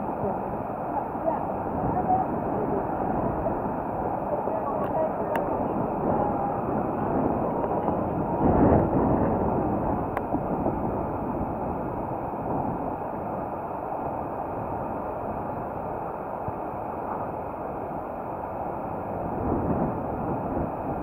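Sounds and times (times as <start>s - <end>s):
bicycle rolling on pavement: 0.0s - 21.0s
wind: 0.0s - 21.0s.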